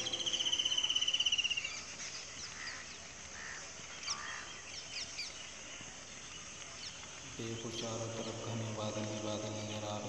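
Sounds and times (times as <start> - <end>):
birds chirping: 0.0 - 10.0
faint outdoor background hiss: 0.0 - 10.0.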